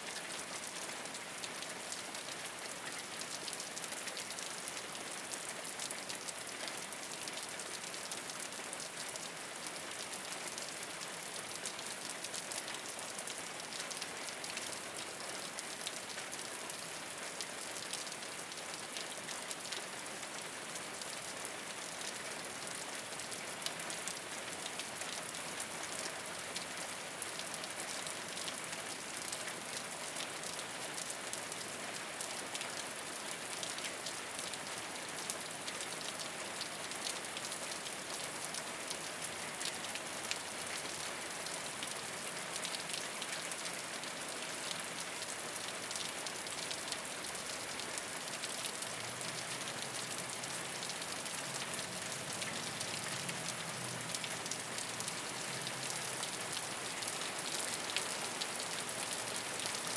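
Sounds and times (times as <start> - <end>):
rain falling on a rooftop: 0.0 - 59.9.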